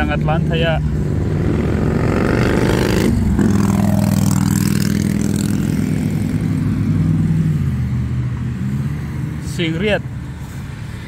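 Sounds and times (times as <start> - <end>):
vehicle engine speeding up: 0.4 - 9.8.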